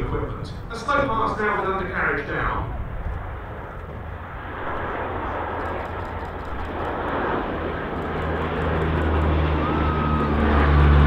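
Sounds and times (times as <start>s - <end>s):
low propeller hum: 0.0s - 11.0s
turboprop aircraft passing: 0.0s - 11.0s.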